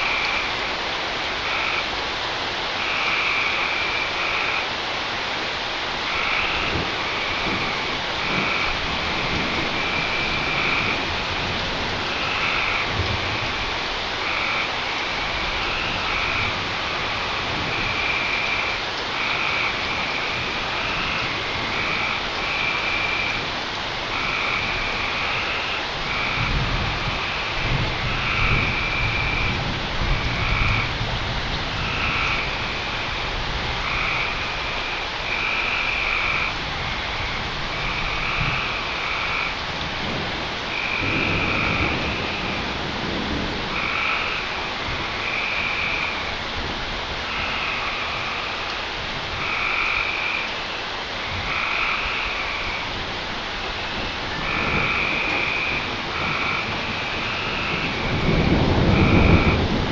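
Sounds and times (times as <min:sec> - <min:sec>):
frogs trilling: 0:00.0 - 0:00.7, 0:01.4 - 0:01.9, 0:02.8 - 0:04.8, 0:06.0 - 0:31.0, 0:31.7 - 0:46.6, 0:47.2 - 0:59.8
steady rain: 0:00.0 - 0:59.9
low rumble of thunder: 0:06.1 - 0:50.4, 0:51.2 - 0:59.9.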